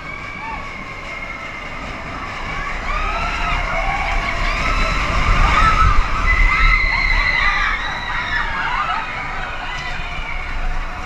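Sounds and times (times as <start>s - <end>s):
riders screaming and shouting: 0.0s - 11.0s
roller coaster rumbling on track: 0.0s - 11.0s.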